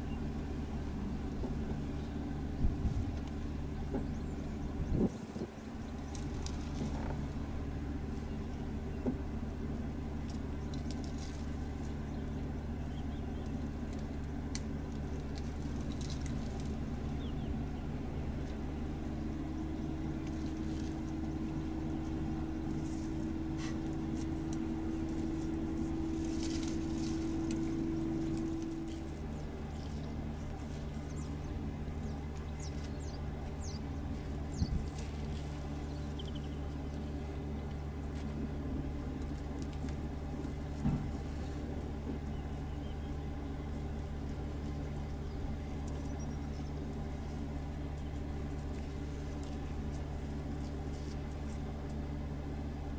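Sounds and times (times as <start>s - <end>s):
vehicle engine idling: 0.0s - 52.9s
leaves and twigs crackling: 4.1s - 8.8s, 10.1s - 52.9s.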